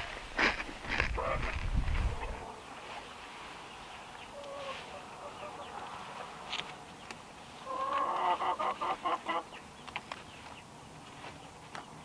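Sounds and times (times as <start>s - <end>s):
chickens clucking: 0.5s - 12.0s.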